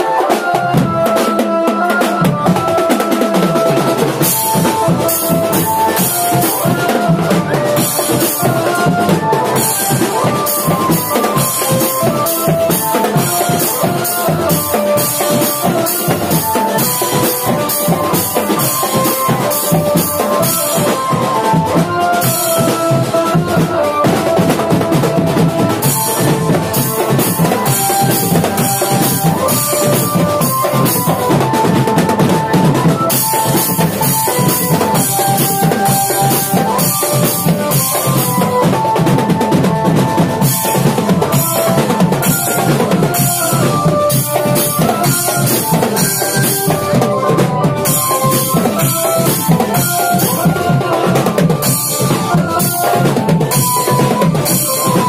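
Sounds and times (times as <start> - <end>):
melody of held notes: 0.0 - 55.0
bass and snare drums: 2.0 - 55.0.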